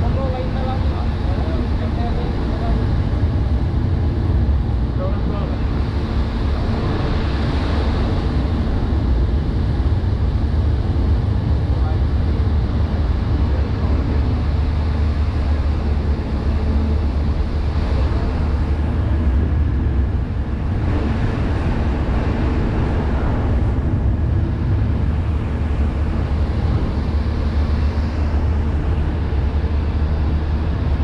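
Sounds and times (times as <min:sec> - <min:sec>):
broad rushing noise: 0:00.0 - 0:31.0
ship engines droning: 0:00.0 - 0:31.0.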